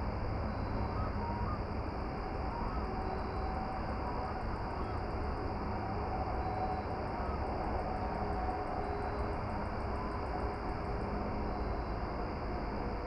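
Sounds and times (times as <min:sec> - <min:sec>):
faint steady hums: 0:00.0 - 0:13.0.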